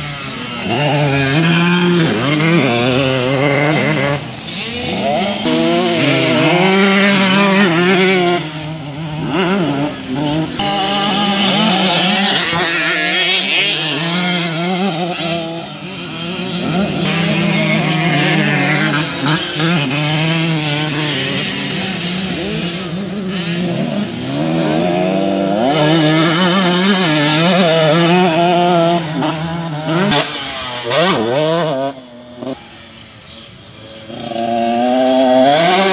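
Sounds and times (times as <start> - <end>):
motocross bike engine revving: 0.0 - 35.9.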